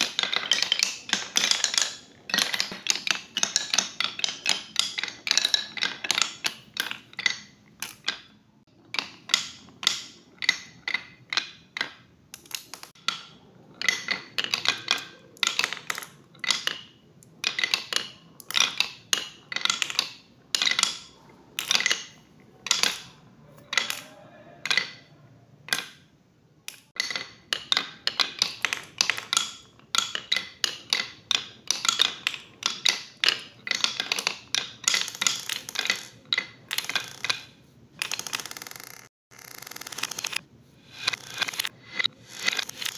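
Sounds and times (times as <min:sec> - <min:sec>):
marbles rolling down wooden chutes: 0:00.0 - 0:26.0, 0:26.9 - 0:42.9.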